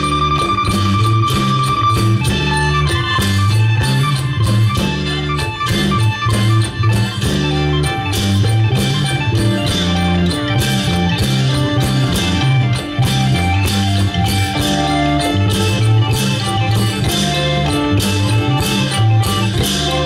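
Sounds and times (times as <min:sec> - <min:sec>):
bass line: 0:00.0 - 0:20.0
drum and cymbal beat: 0:00.0 - 0:20.0
plucked-string melody: 0:00.0 - 0:20.0.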